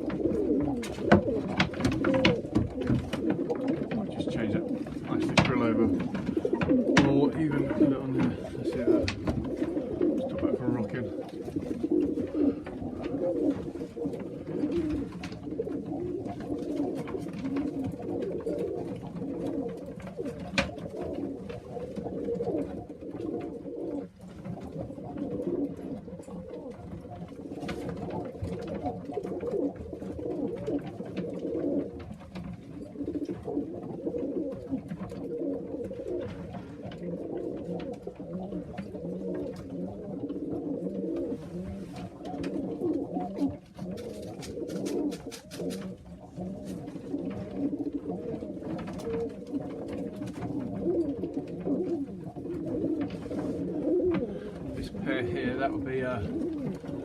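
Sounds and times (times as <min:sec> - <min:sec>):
faint clicks and taps: 0:00.0 - 0:57.0
pigeons cooing: 0:00.0 - 0:57.0.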